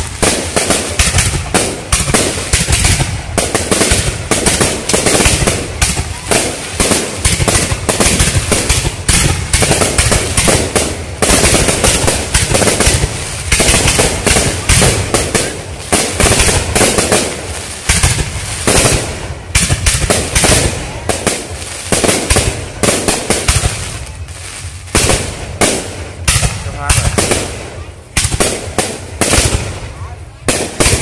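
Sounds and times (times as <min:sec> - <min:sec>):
fireworks bangs and crackle: 0:00.0 - 0:31.0.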